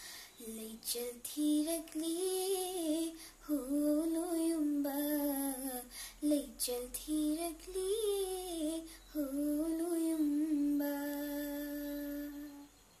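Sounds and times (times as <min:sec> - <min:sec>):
girl singing: 0:00.0 - 0:12.8.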